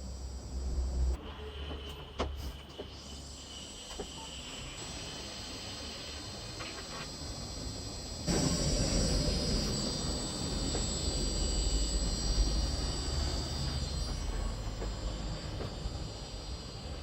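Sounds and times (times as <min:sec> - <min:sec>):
high whine: 0:02.7 - 0:17.0
computer fans humming: 0:03.2 - 0:17.0.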